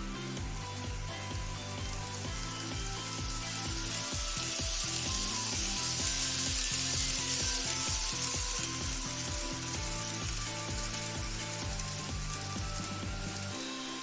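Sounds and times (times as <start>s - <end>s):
background music with steady beat: 0.0s - 14.0s
model trains running on track: 0.0s - 14.0s.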